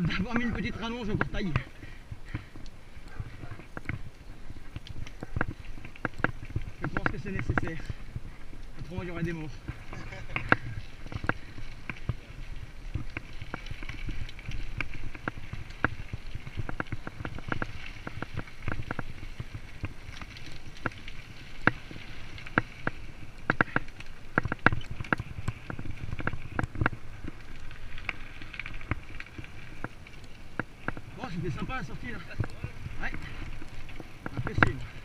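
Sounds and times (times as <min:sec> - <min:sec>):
bike clicking and rattling: 0:00.0 - 0:35.0
bike tyres rumbling: 0:00.0 - 0:35.0.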